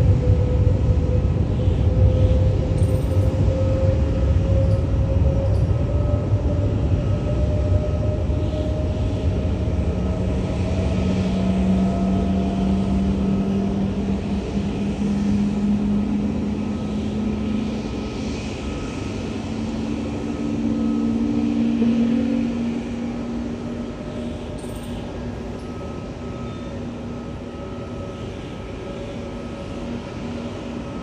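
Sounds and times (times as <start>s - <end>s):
airliner engines rumbling: 0.0s - 31.0s.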